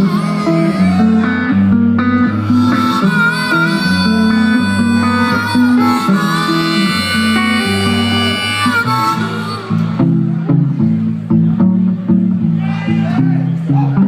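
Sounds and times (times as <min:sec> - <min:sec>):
live blues band playing: 0:00.0 - 0:14.0
picked guitar notes: 0:00.0 - 0:14.0.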